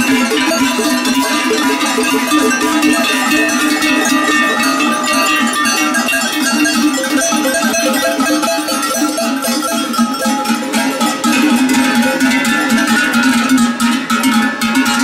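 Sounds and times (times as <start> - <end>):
cowbells jangling: 0.0 - 15.0.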